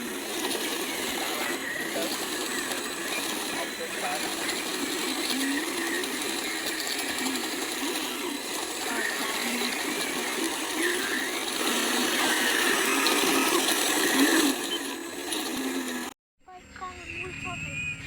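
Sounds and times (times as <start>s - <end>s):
small electric motors whirring: 0.0s - 16.2s.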